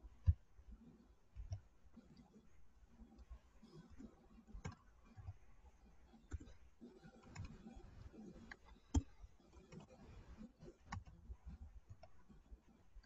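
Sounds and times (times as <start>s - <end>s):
faint clicks and light knocks: 0.0s - 13.0s.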